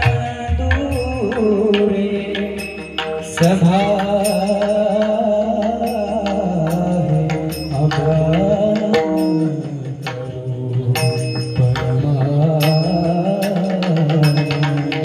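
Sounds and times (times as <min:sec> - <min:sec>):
drum and percussion: 0:00.0 - 0:15.0
person singing devotional song: 0:00.0 - 0:15.0.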